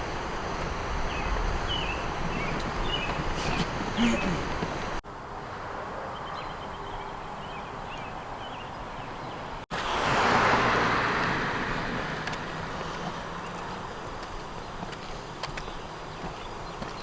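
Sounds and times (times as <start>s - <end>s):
car passing by: 0.0s - 15.1s
street ambience: 0.0s - 17.0s.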